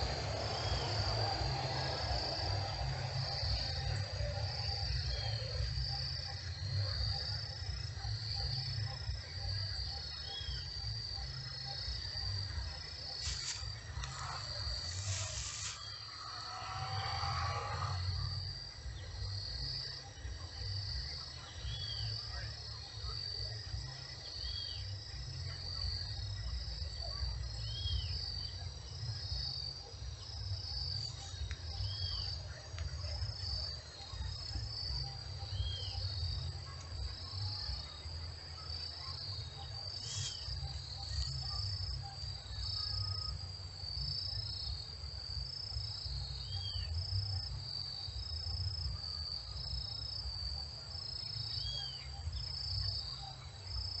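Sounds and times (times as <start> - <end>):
constant low rumble: 0.0 - 54.0
insects chirping rapidly: 0.0 - 54.0.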